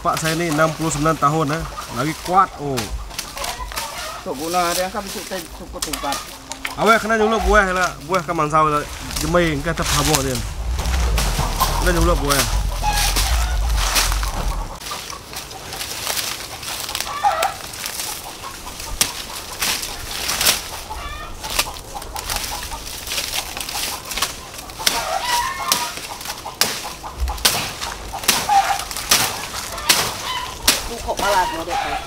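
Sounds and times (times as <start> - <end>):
dry leaves and stalks crackling: 0.0 - 32.0
hen clucking: 0.0 - 32.0.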